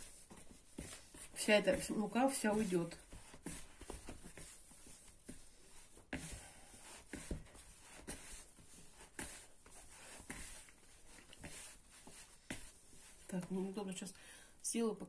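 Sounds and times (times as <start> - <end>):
hands kneading dough: 0.0 - 14.0.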